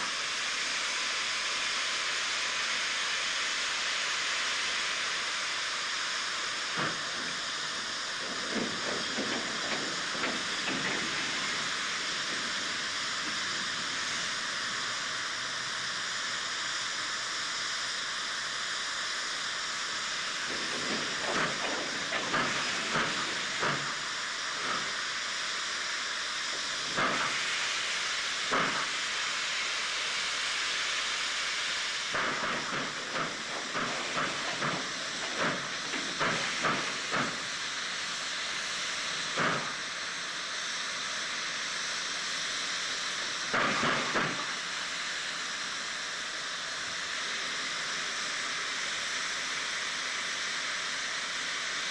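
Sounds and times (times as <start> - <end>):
steam hissing: 0.0 - 51.9
steam locomotive exhaust beats: 0.0 - 51.9.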